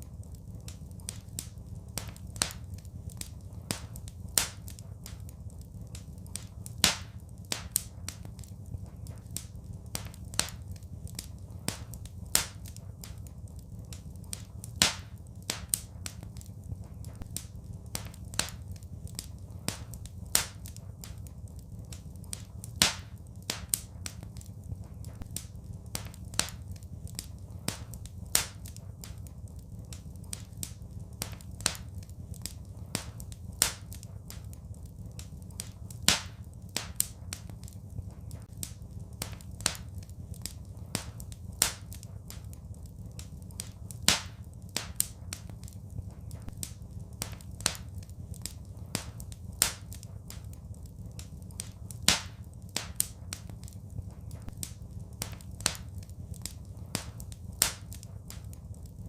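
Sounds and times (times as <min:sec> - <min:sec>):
fireplace fire crackling: 0:00.0 - 0:59.0
steady low rumble: 0:00.0 - 0:59.0.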